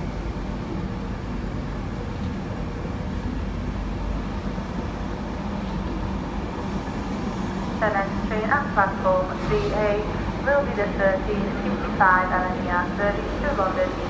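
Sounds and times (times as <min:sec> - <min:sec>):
faint hum: 0:00.0 - 0:14.0
train wheels rumbling on rails: 0:00.0 - 0:14.0.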